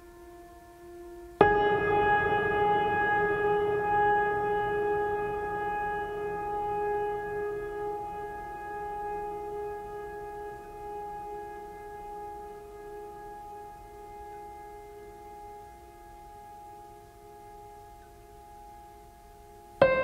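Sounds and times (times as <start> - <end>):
held drone chord: 0.0 - 18.9.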